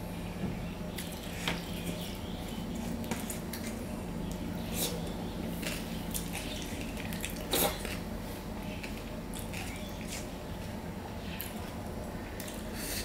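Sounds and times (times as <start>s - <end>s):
wet squishes of food mixed by hand: 0.9s - 12.7s.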